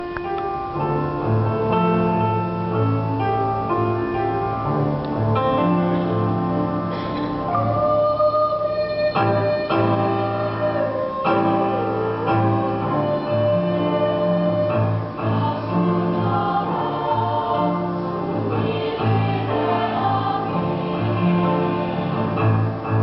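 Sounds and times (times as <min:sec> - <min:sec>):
piano introduction: 0:00.0 - 0:23.0.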